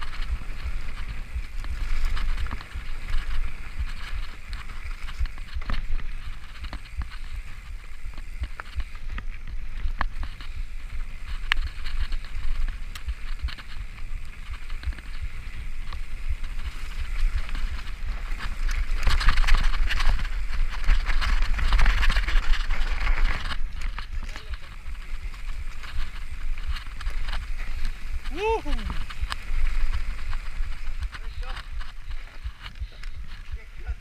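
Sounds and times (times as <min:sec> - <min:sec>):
bike rattling over bumps: 0:00.0 - 0:34.0
bike tyres on dirt and leaves: 0:00.0 - 0:34.0
wind rumbling on microphone: 0:00.0 - 0:34.0.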